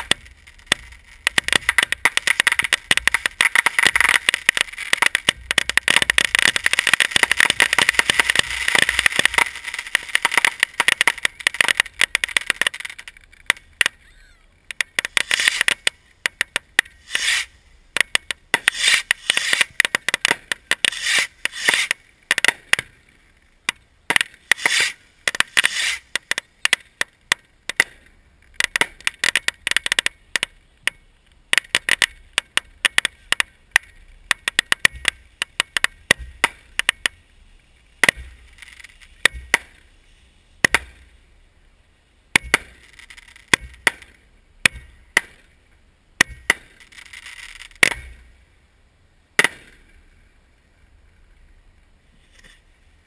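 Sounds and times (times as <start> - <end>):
fireworks hissing: 0.0 - 30.6, 31.5 - 45.6, 46.4 - 48.4
fireworks booming: 0.0 - 41.3, 42.3 - 45.6, 46.2 - 48.4, 49.3 - 50.2
fireworks cracking and popping: 0.0 - 48.4, 49.3 - 51.6.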